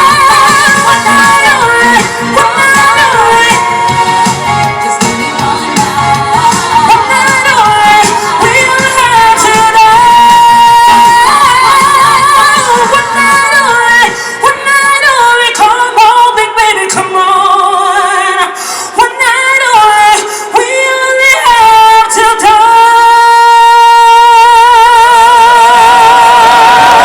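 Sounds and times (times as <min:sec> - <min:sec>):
woman singing: 0:00.0 - 0:27.0.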